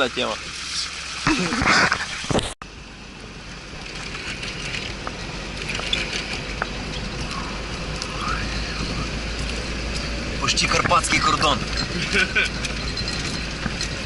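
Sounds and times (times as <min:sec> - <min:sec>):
vehicle driving rumble: 0:00.0 - 0:14.0.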